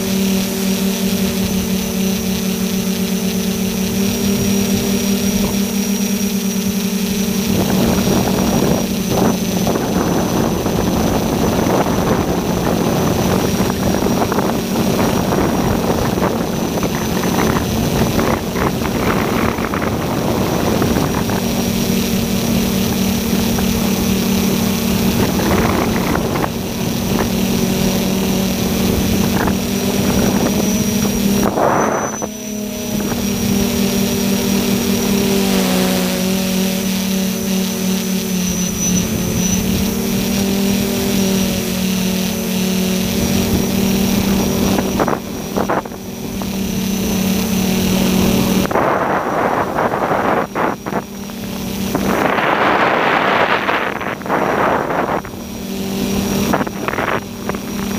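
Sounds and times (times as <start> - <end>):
drone motors and propellers whirring: 0.0 - 57.9
wind noise: 0.0 - 57.9.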